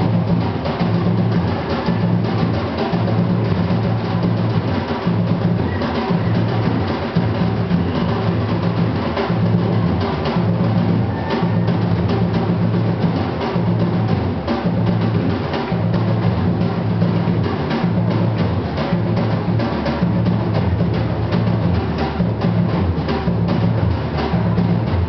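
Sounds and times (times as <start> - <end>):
deep bass drums: 0.0 - 25.0
fast snare and hand percussion: 0.0 - 25.0.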